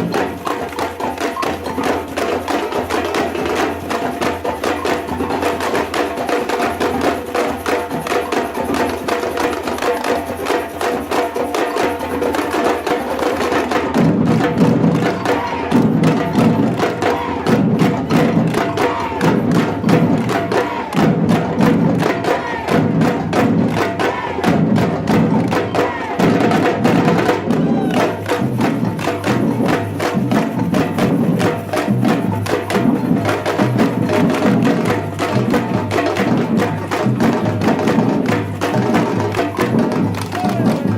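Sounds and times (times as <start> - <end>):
samba percussion group playing: 0.0 - 40.9.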